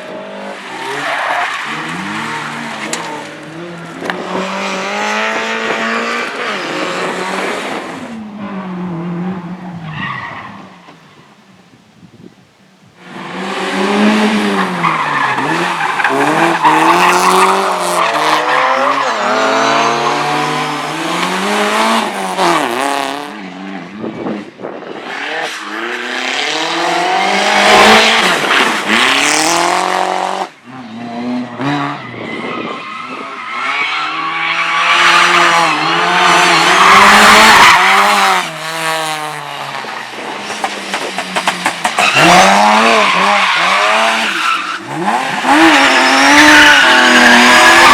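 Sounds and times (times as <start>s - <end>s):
race car engine revving: 0.0s - 9.8s, 13.0s - 24.3s, 25.2s - 47.9s.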